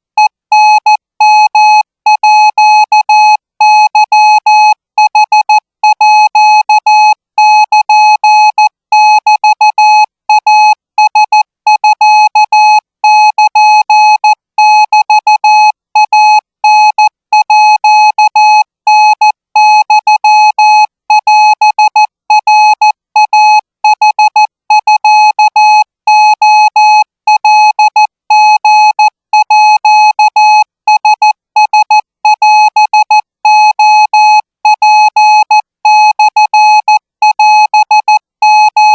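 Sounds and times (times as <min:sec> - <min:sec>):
morse code beeps: 0:00.5 - 0:38.9.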